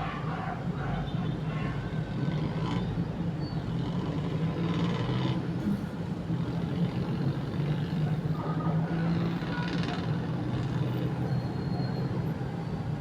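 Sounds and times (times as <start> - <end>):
street noise: 0.0 - 13.0
vehicle engines humming: 0.6 - 13.0.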